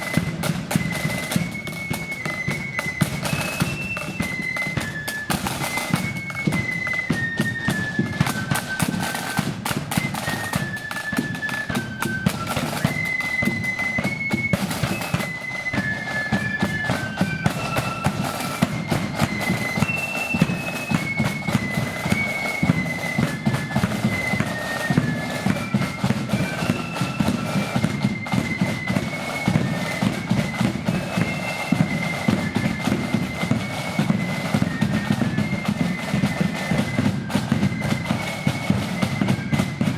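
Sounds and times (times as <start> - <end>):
flute band playing march: 0.0 - 39.9
snare and bass drumming: 0.0 - 39.9.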